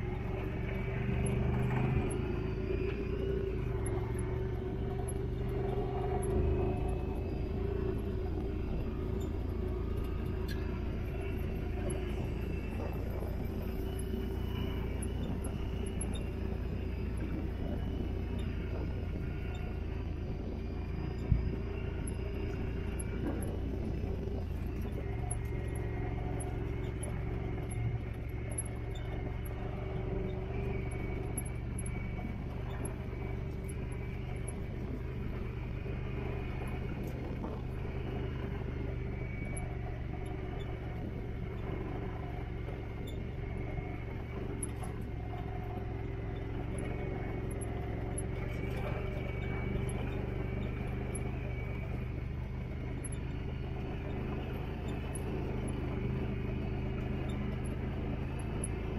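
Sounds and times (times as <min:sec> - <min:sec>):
off-road vehicle engine droning: 0:00.0 - 0:58.9.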